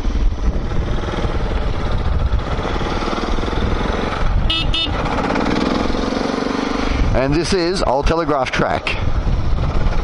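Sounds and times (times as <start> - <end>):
dirt bike engine running: 0.0 - 10.0
wind rumble on microphone: 0.0 - 10.0.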